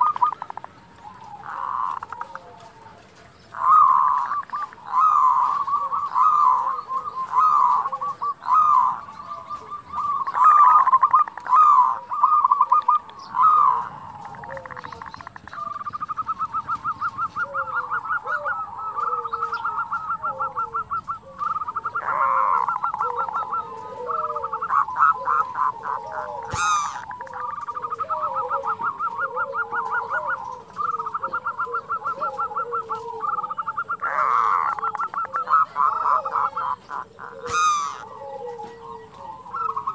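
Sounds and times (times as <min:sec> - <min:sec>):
doves calling: 0:00.0 - 0:39.9.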